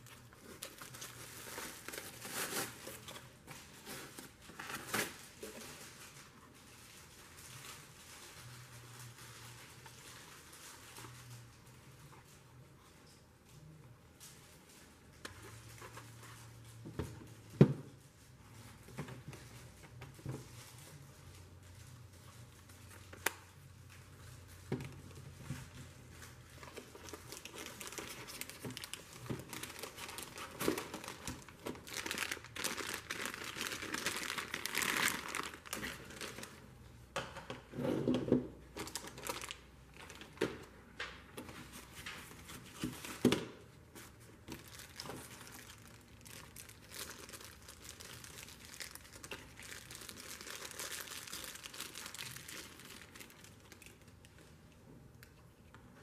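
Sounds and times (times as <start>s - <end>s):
crinkling rustling hand work: 0.0s - 56.0s.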